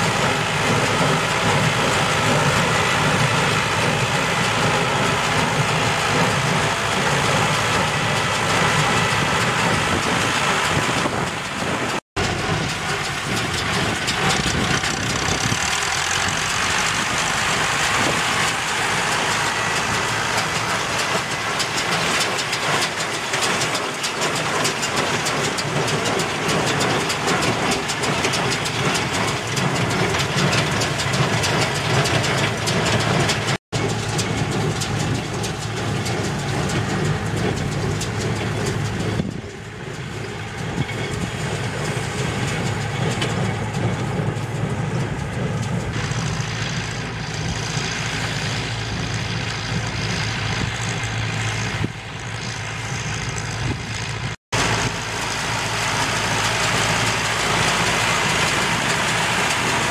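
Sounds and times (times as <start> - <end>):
baler mechanical clatter: 0.0 - 59.9
tractor engine drone: 0.0 - 59.9.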